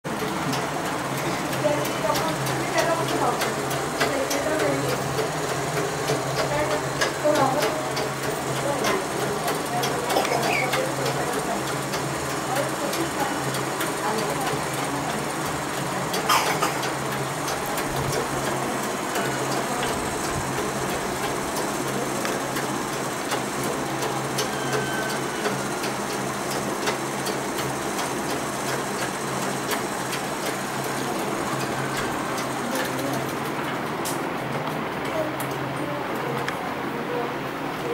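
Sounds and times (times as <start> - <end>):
sewing machine whirring: 0.1 - 36.4.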